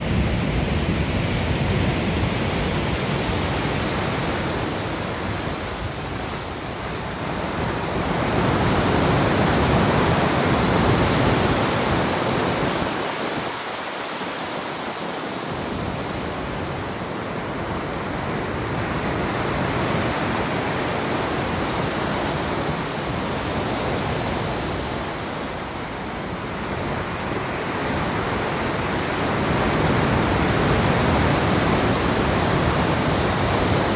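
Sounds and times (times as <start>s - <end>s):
sea water rushing along hull: 0.0s - 33.9s.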